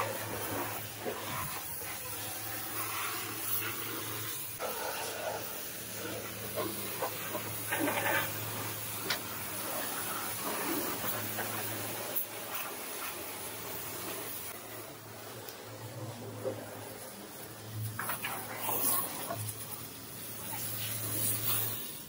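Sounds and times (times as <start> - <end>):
pressure washer water hissing: 0.0 - 22.0.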